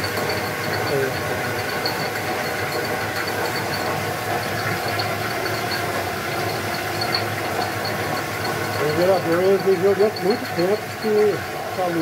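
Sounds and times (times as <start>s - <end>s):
generator humming: 0.0s - 12.0s.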